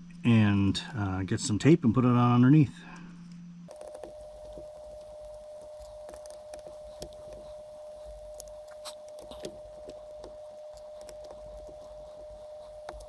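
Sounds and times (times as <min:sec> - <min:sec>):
steady high-pitched hum: 0:00.0 - 0:13.0.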